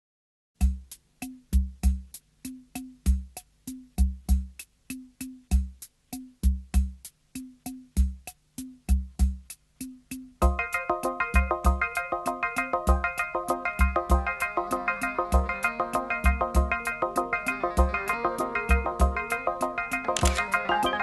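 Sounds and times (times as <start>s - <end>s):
drum-machine beat: 0.6s - 21.0s.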